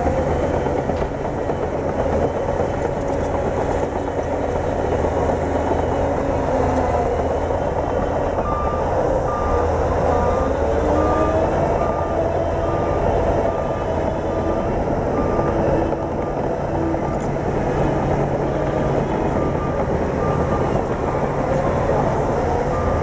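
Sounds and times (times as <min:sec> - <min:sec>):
bulldozer diesel engine running: 0:00.0 - 0:23.0
reversing alarm beeping: 0:03.8 - 0:23.0.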